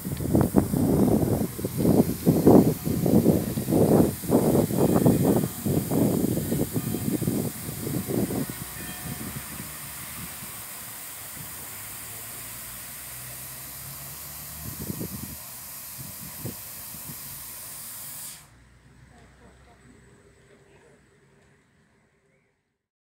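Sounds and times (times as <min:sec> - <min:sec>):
misting nozzles hissing: 0:00.0 - 0:18.6.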